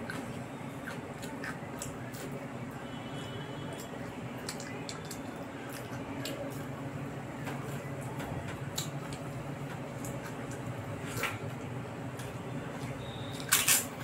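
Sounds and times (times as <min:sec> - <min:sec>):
wet chewing and squishing: 0:00.0 - 0:06.8, 0:07.4 - 0:14.0.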